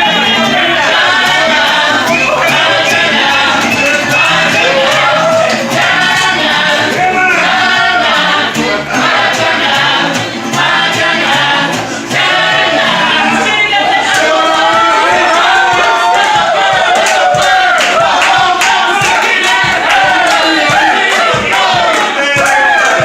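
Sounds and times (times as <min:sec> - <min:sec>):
mariachi band playing and singing: 0:00.0 - 0:23.0.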